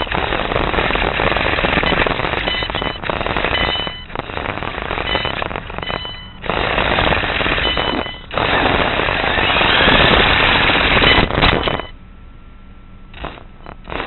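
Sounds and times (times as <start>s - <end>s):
faint high motor whine: 0.0s - 14.0s.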